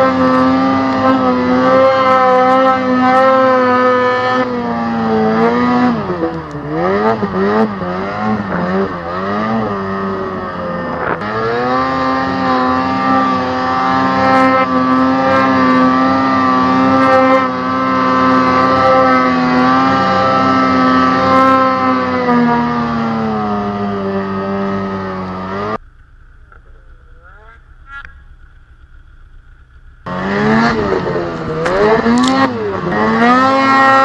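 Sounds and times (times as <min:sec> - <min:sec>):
snowmobile engine at high revs: 0:00.0 - 0:25.8, 0:30.0 - 0:34.0.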